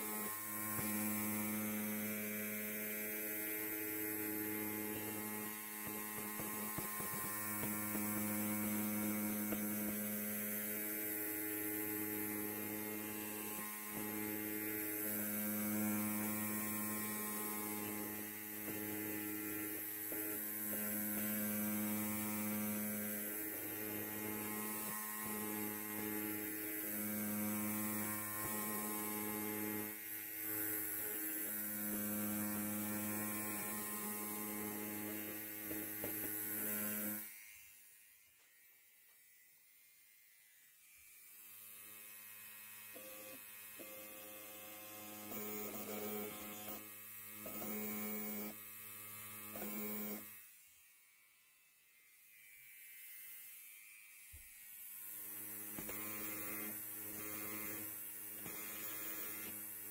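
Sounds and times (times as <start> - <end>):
electric hair clipper buzzing: 0.0 - 59.9.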